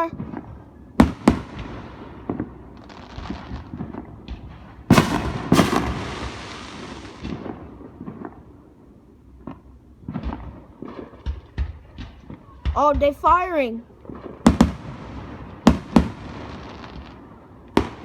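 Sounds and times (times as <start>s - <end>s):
fireworks booming: 0.0s - 18.0s
fireworks crackling pops: 0.0s - 18.0s.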